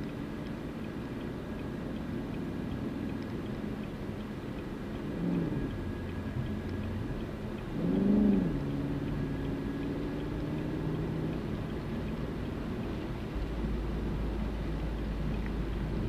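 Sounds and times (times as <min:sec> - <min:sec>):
car engine: 0:00.0 - 0:16.0
road rumble: 0:00.0 - 0:16.0.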